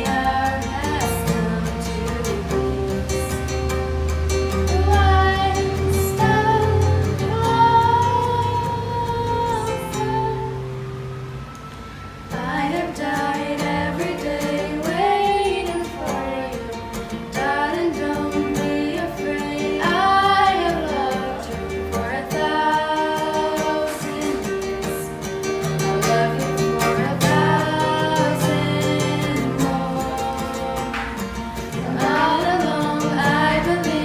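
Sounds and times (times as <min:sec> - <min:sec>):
woman singing: 0:00.0 - 0:03.9, 0:04.5 - 0:10.9, 0:12.3 - 0:34.0
instrumental accompaniment: 0:00.0 - 0:34.0.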